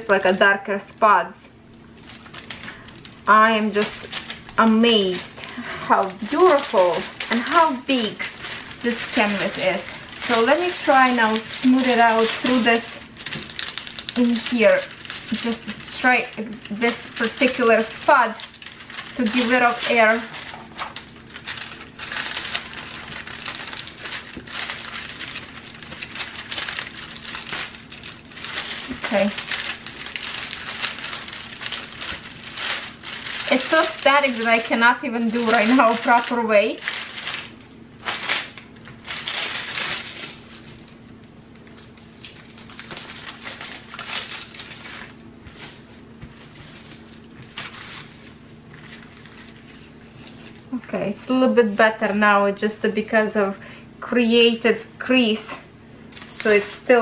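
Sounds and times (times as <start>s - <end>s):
plastic film crinkling: 0.0s - 53.4s, 56.1s - 57.0s.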